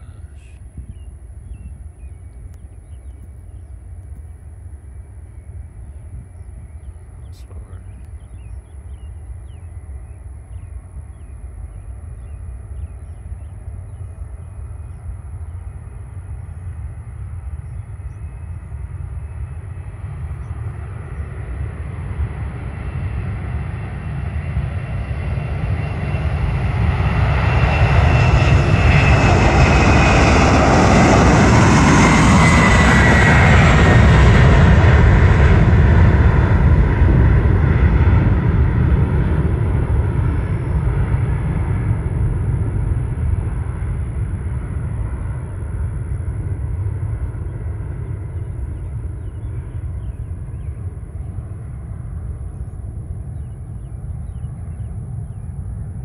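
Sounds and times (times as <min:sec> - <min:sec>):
jet engine whine: 0:00.0 - 0:56.0
jet engines rumbling at takeoff: 0:00.0 - 0:56.0.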